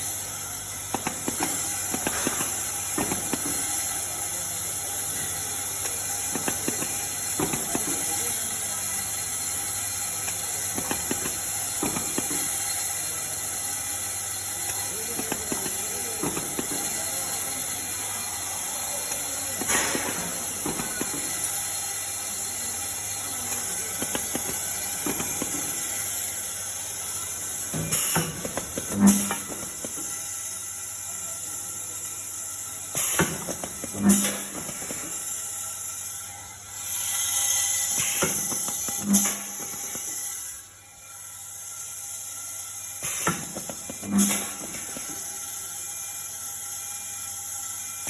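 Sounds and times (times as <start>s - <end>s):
welding machine clicks and clunks: 0.0s - 36.2s, 36.8s - 48.0s
welding machine hiss and hum: 0.0s - 48.0s.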